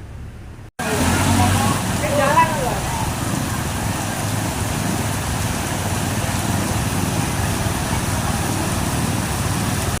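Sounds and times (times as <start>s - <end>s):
road traffic rumble: 0.0s - 10.0s
traffic hiss: 0.8s - 10.0s.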